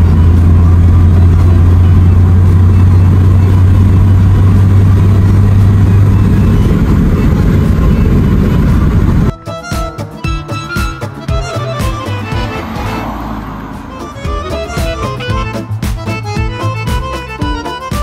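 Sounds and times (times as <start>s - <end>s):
car engine drone inside cabin: 0.0s - 9.3s, 11.1s - 16.9s.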